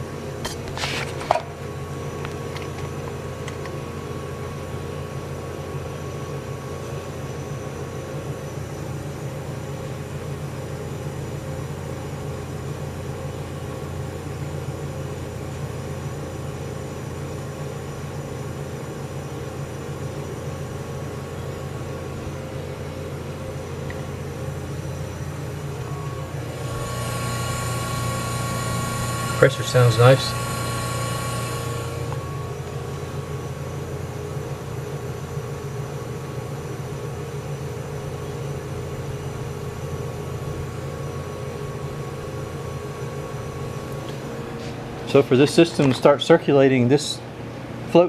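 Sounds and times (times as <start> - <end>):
refrigerator compressor humming: 0.0 - 48.0.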